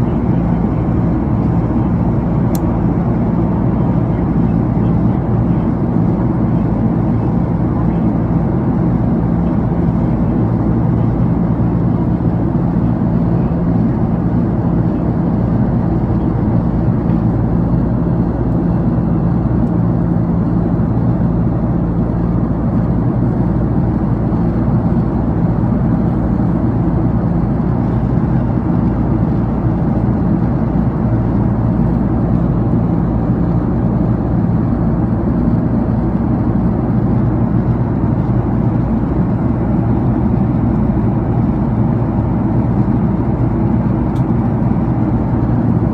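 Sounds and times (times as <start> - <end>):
jet airliner cabin drone: 0.0 - 45.9.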